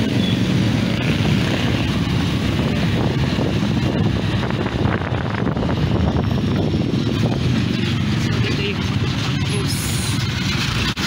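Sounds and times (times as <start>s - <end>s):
motorcycle engine running: 0.0s - 11.0s
wind rumbling on microphone: 0.0s - 11.0s.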